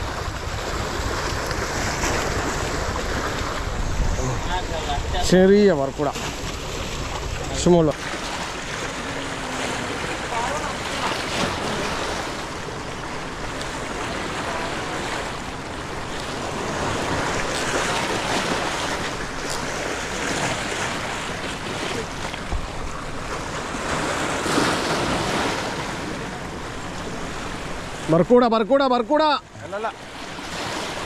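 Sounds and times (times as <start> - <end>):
wind buffeting microphone: 0.0 - 25.8
waves breaking against rocks: 0.0 - 31.0.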